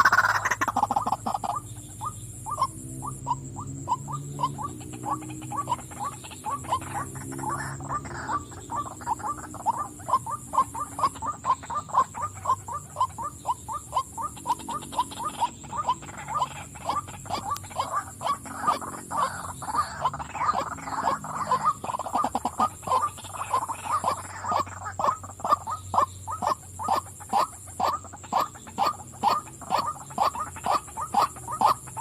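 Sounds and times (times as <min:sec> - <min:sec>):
waterhen croaking calls: 0:00.0 - 0:32.0.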